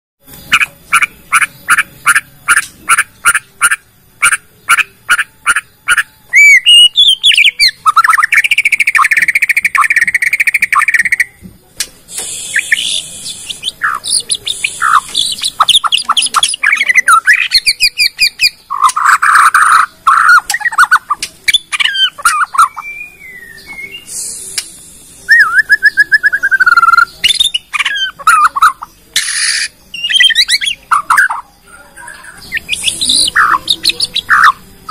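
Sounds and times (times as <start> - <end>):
bird singing varied song: 0.2 - 34.9.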